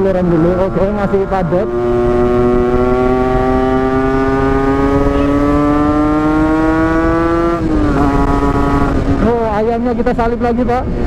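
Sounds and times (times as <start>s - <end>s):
low wind rumble: 0.0s - 11.0s
motorcycle engine accelerating: 0.0s - 11.0s.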